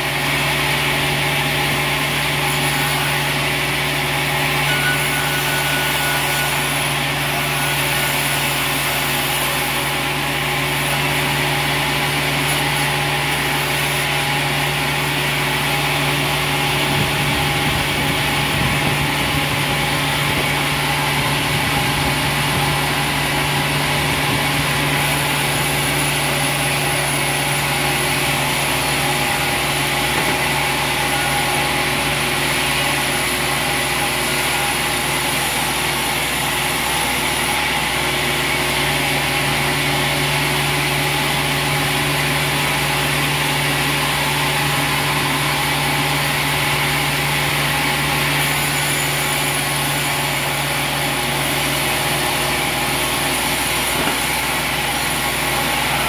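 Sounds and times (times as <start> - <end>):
band sawmill humming: 0.0 - 56.0.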